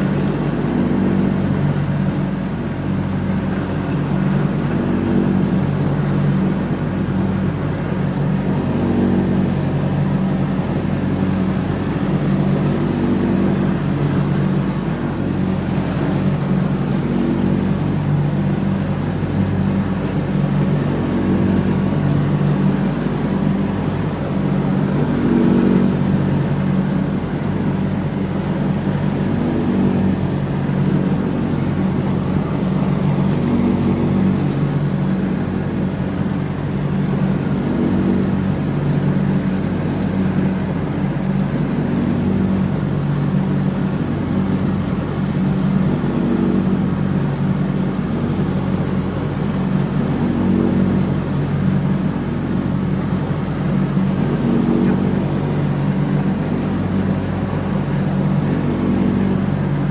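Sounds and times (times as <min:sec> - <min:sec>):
lawn tractor mowing: 0:00.0 - 0:59.9.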